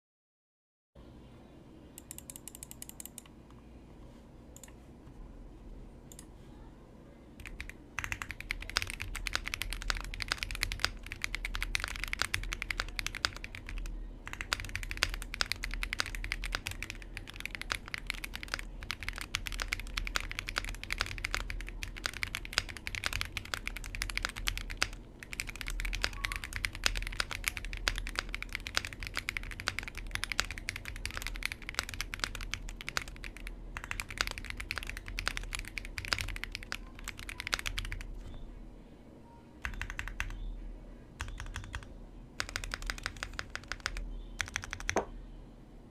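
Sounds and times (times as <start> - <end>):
mechanical keyboard typing: 2.0 - 3.3, 7.4 - 38.2, 39.6 - 40.4, 41.2 - 45.1.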